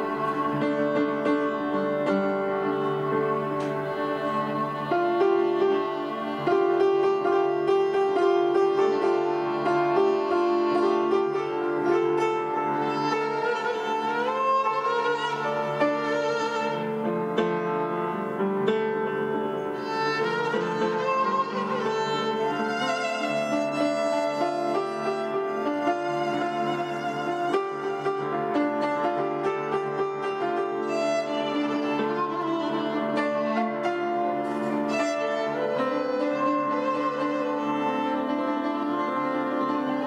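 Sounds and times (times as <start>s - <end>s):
bowed violin: 0.0s - 40.0s
piano chords: 0.0s - 40.0s.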